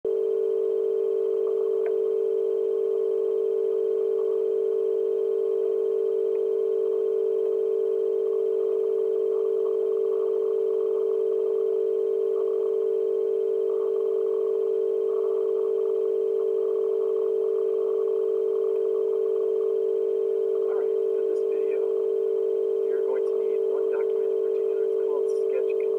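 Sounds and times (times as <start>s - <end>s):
steady electronic tone: 0.1s - 25.9s.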